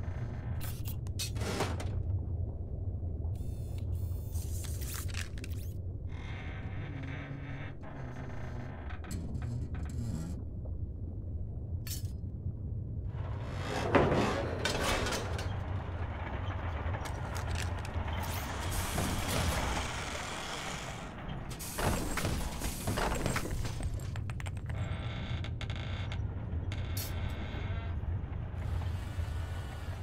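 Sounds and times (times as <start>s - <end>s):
low mechanical rumble: 0.0s - 30.0s.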